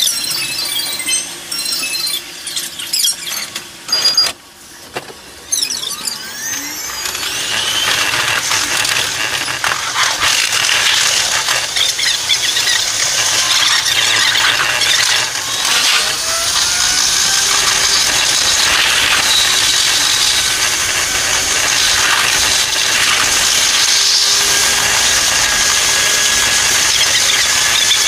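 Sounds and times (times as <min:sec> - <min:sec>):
sped-up train squealing and whining: 0:05.4 - 0:28.0.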